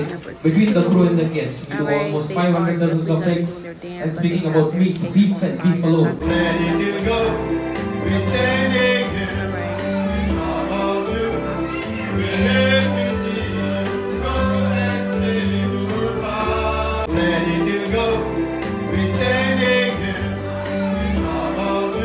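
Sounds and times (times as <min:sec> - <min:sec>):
music with singing: 0:01.8 - 0:22.0.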